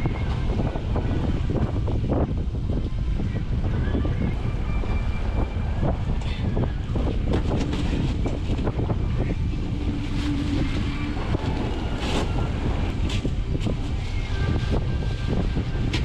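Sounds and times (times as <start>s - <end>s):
low hum: 0.0s - 16.0s
wind rumbling on microphone: 0.0s - 16.0s.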